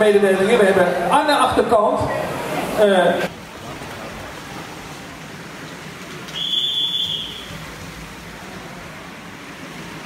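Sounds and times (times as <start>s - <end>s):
indoor swimming hall noise: 0.0s - 10.0s.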